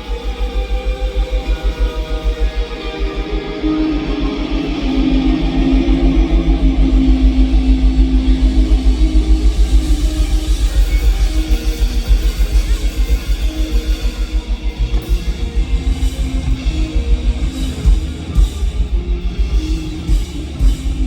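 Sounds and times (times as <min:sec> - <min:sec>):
sustained electric guitar notes: 0:00.0 - 0:21.0
fast low bass pulse: 0:04.1 - 0:21.0.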